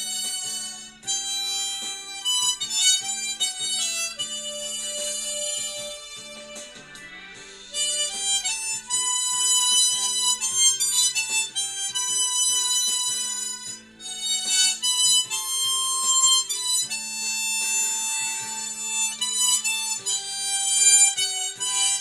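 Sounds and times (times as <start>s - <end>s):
harmonica playing slow melody: 0.0s - 22.0s.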